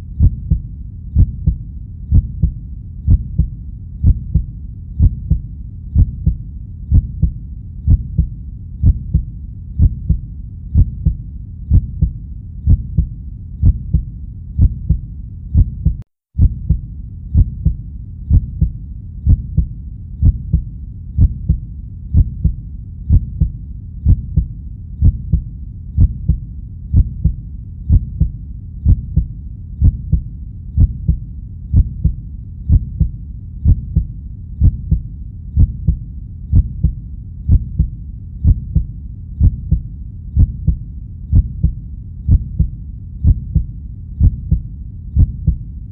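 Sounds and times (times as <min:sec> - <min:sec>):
heartbeat: 0:00.0 - 0:45.8.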